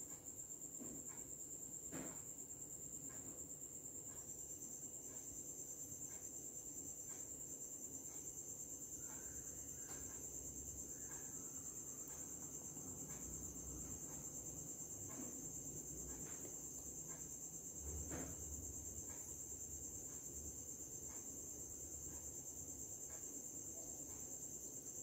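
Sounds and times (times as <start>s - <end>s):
cricket chirping trill: 0.0s - 25.0s.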